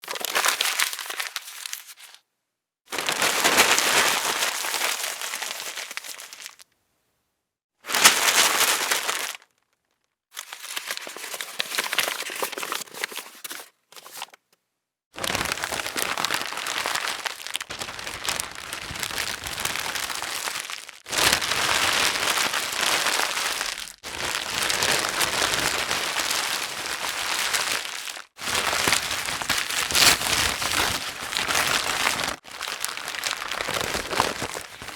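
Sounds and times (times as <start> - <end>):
paper crumpling: 0.0 - 2.2, 2.9 - 6.6, 7.9 - 9.4, 10.4 - 14.4, 15.2 - 34.9.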